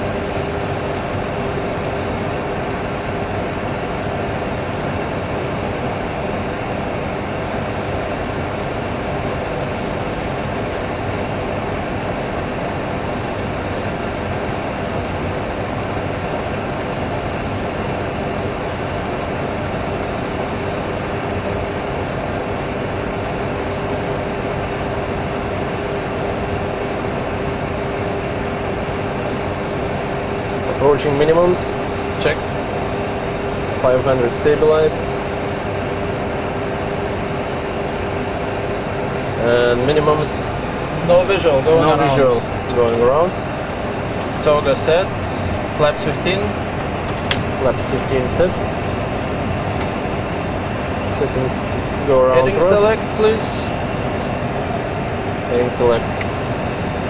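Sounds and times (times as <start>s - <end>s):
aircraft engines humming: 0.0s - 57.0s.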